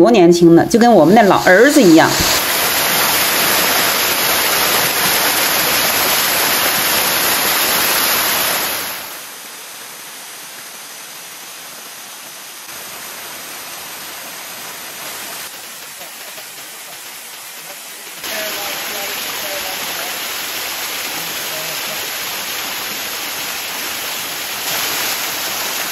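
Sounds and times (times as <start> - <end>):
waterfall roaring: 0.9 - 25.9.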